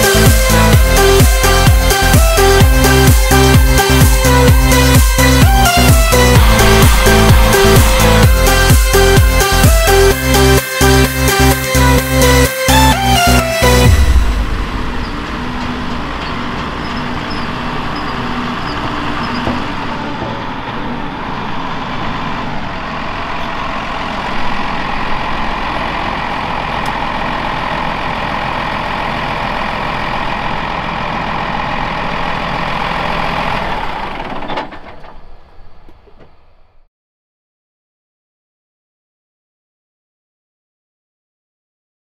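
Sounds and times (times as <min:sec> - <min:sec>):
tractor engine drone with whine: 0:00.0 - 0:36.9.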